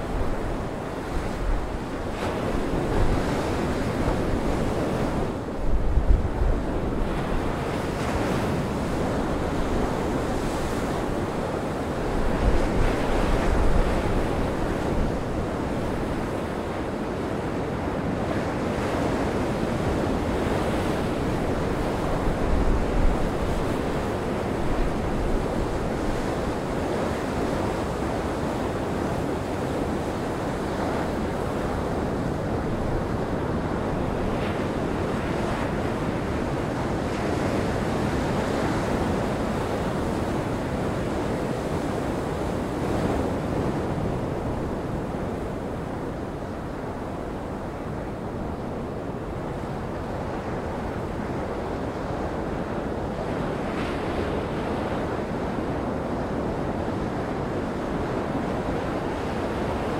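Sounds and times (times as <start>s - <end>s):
wind gusts on microphone: 0.0s - 59.9s.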